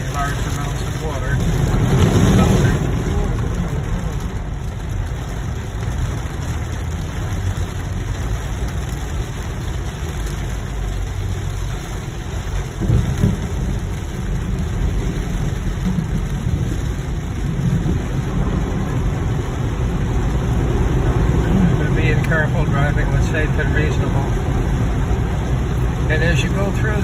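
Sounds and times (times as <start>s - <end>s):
low rumble: 0.0s - 27.0s
rain on a car: 0.0s - 27.0s.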